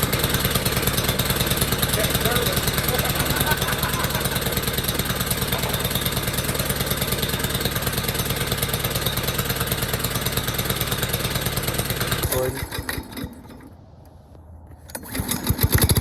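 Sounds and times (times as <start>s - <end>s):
small engine idling: 0.0s - 13.8s, 14.9s - 16.0s.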